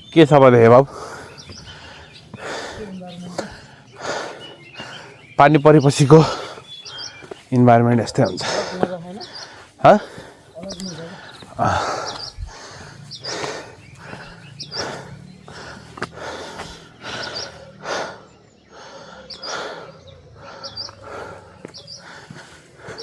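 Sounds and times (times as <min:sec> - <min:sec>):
small birds chirping: 0:00.0 - 0:23.0
man breathing heavily: 0:00.6 - 0:05.4, 0:06.0 - 0:07.5, 0:08.2 - 0:23.0.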